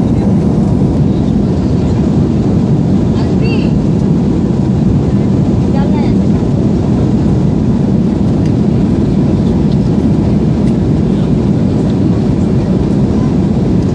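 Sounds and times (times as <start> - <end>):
jet airliner cabin noise: 0.0 - 13.9.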